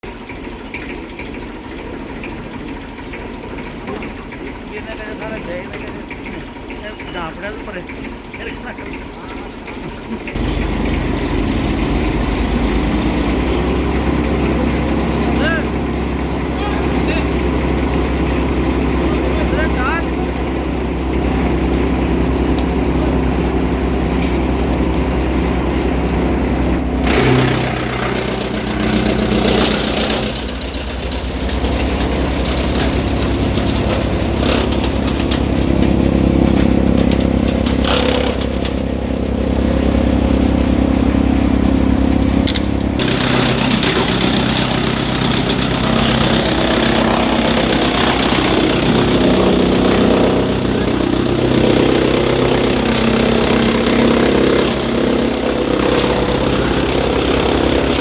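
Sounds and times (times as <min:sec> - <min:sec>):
wood chipper running: 0:00.0 - 0:58.0.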